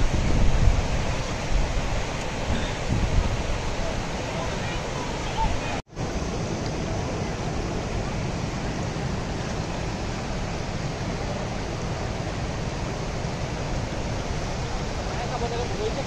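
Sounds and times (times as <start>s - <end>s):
stream flowing over rocks: 0.0s - 16.0s
waterfall rushing: 0.0s - 16.0s.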